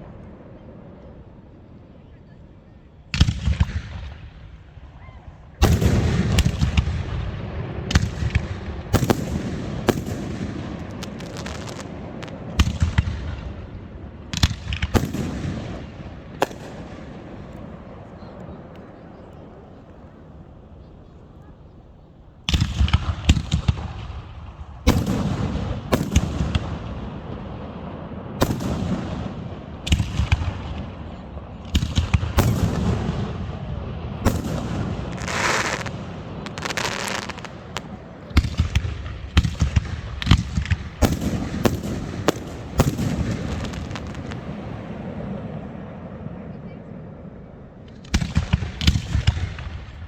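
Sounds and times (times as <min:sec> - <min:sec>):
fireworks bangs: 0:03.1 - 0:46.4, 0:47.8 - 0:50.0.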